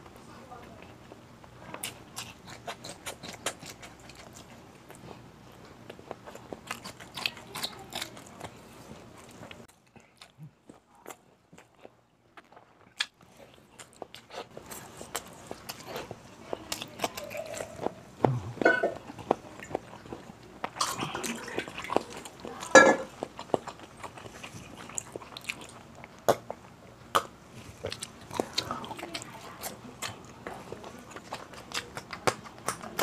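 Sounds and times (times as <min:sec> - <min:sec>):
man chewing with lip smacks: 0:00.8 - 0:33.0.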